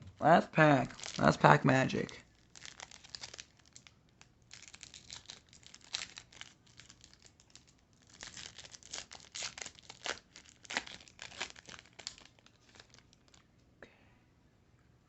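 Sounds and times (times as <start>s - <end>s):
foil wrapper tearing and crinkling: 0.9s - 13.4s.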